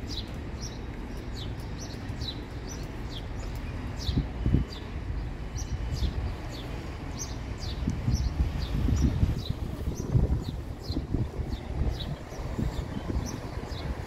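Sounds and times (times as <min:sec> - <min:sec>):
bird chirping: 0:00.0 - 0:14.0
steady low rumble: 0:00.0 - 0:14.0.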